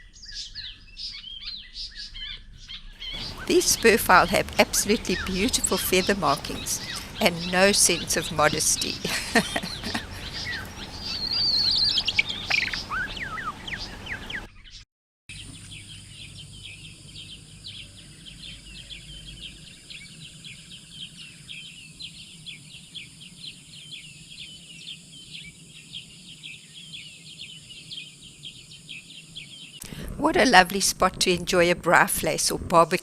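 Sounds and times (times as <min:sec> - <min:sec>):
rapid high bird twittering: 0:00.0 - 0:29.9
varied falling bird calls: 0:00.1 - 0:29.9.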